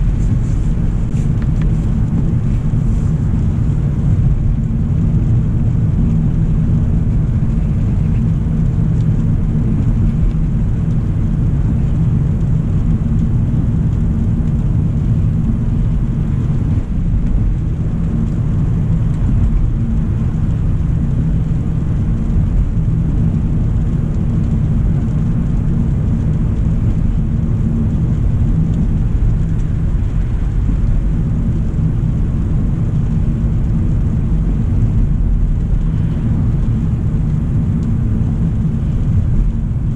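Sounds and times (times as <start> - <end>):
car driving low rumble: 0.0 - 39.9.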